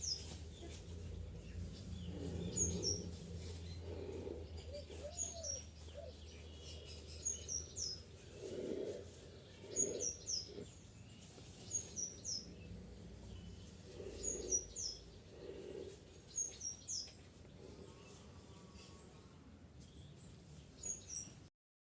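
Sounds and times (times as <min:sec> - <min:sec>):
bird chirping: 0:00.0 - 0:21.5.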